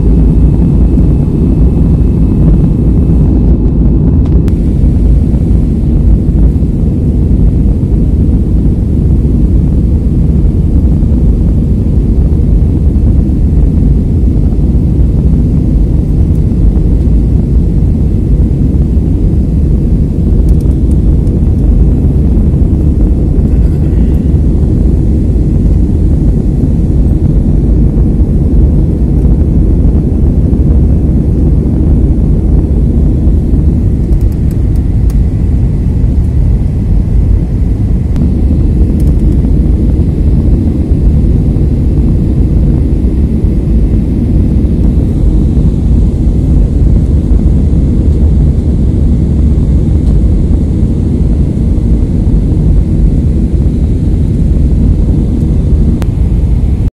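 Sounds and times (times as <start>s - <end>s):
airliner cabin rumble: 0.0s - 56.9s.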